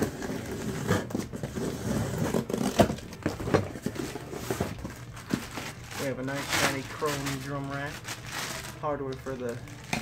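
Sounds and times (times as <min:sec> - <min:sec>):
rustling of plastic wrap: 0:00.0 - 0:10.0.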